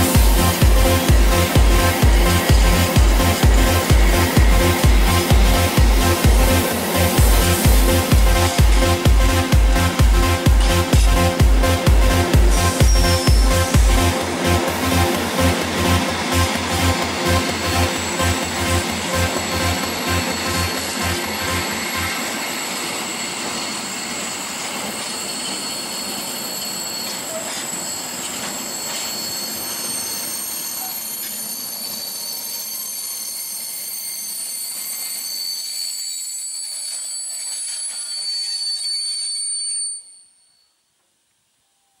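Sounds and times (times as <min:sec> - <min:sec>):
freight train rolling noise: 0:00.0 - 0:40.2
train wheels squealing: 0:00.0 - 0:40.9.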